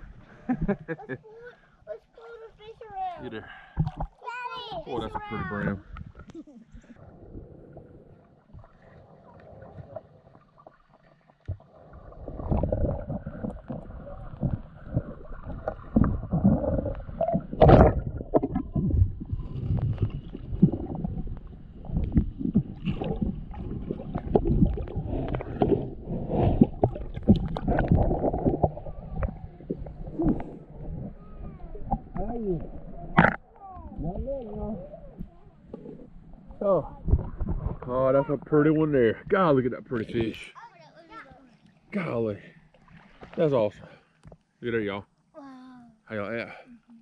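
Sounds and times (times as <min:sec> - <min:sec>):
water sloshing and gurgling: 0:00.0 - 0:45.3.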